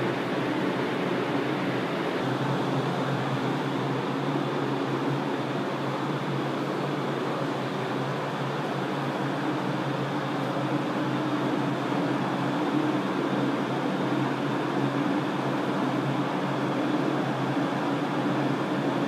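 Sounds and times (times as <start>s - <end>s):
ventilation fans running: 0.0s - 19.0s.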